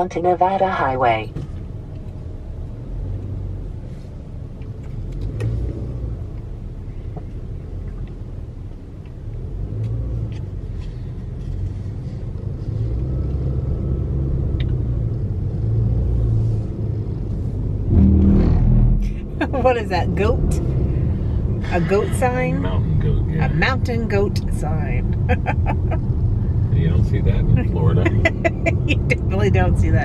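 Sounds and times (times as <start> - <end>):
car engine and tyre hum: 0.0 - 30.0.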